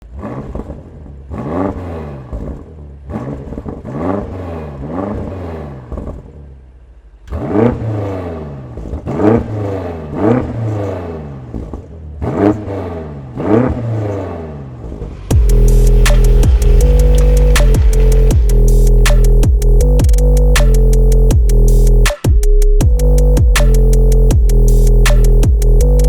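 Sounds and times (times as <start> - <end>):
car engine revving: 0.0 - 6.6, 7.2 - 22.2, 22.8 - 26.0.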